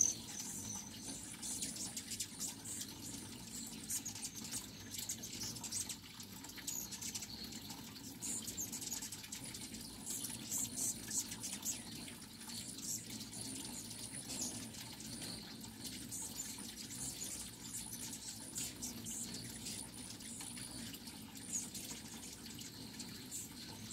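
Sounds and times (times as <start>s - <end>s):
hummingbird chips and twitters: 0.0s - 23.9s
hummingbird wings humming: 0.0s - 23.9s.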